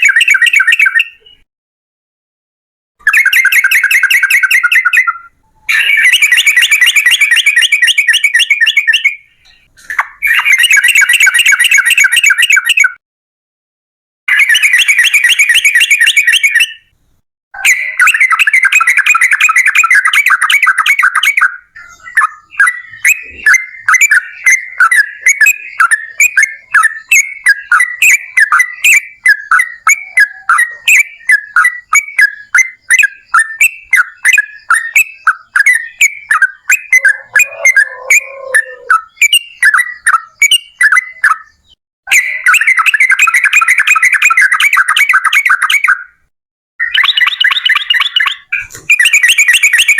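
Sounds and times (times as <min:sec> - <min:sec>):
bird chattering song: 0:00.0 - 0:01.4, 0:03.0 - 0:13.0, 0:14.3 - 0:17.0, 0:17.6 - 0:46.2, 0:46.8 - 0:49.9.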